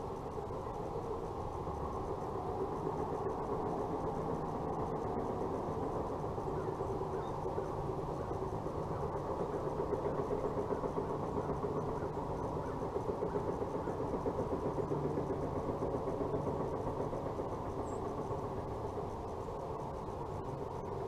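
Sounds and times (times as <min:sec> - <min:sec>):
machine humming with fast pulse: 0:00.0 - 0:21.0.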